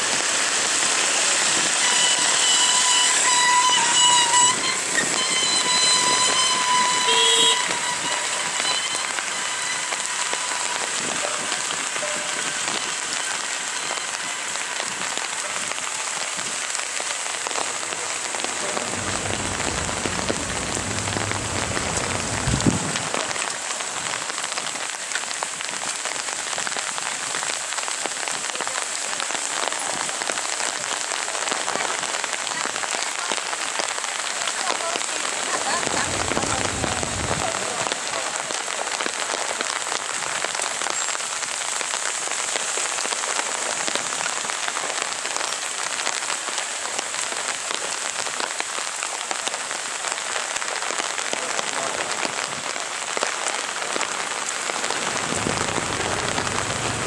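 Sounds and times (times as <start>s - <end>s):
heavy rain on wet road: 0.0s - 57.0s.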